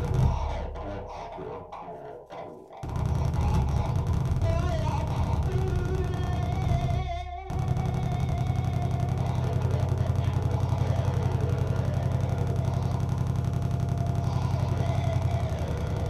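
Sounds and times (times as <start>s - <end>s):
electronic noise music: 0.0s - 2.1s, 2.8s - 16.0s.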